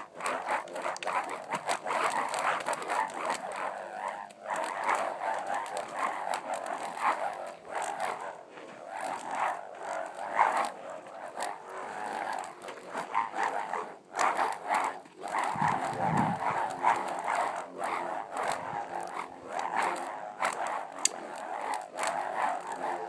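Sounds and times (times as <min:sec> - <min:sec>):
whirled noisemakers whirring: 0:00.0 - 0:23.0.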